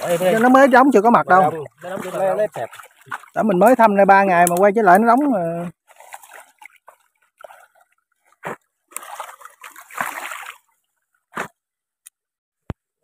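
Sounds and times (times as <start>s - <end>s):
sharp water splashes: 0.0s - 10.8s
water sloshing and splashing: 0.0s - 11.6s.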